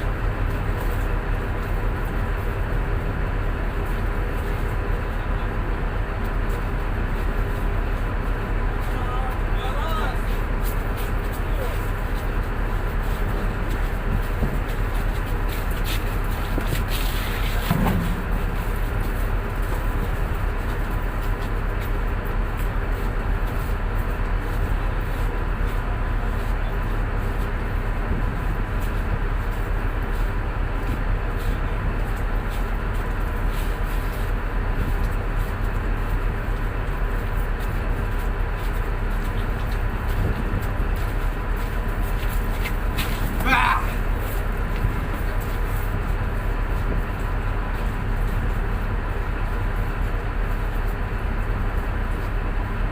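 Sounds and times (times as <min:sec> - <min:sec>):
diesel boat engine droning: 0:00.0 - 0:52.9.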